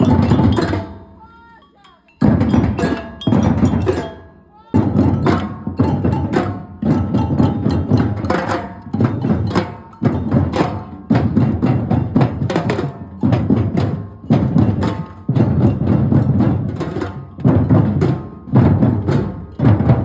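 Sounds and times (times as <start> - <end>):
percussion ensemble playing: 0.0 - 20.0.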